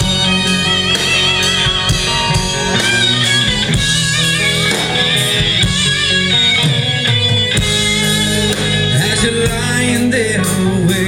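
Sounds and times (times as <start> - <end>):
drums steady beat: 0.0 - 11.0
rock guitar: 0.0 - 11.0.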